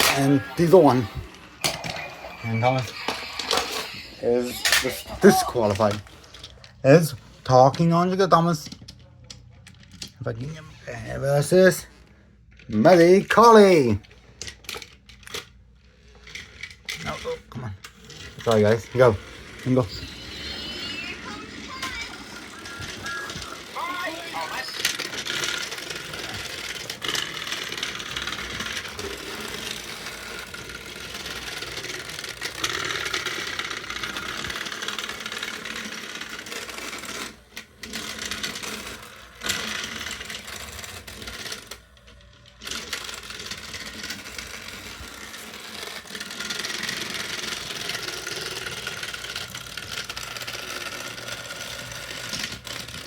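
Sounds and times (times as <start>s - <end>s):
gears rattling: 0.0s - 10.2s, 12.5s - 53.0s
toy train motors whirring: 0.0s - 53.0s.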